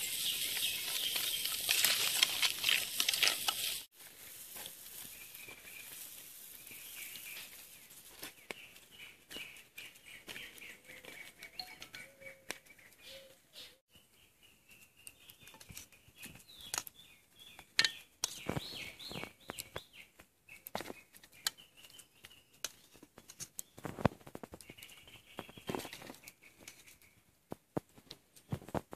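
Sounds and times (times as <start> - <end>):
birds chirping: 0.0 - 3.8, 5.0 - 27.2.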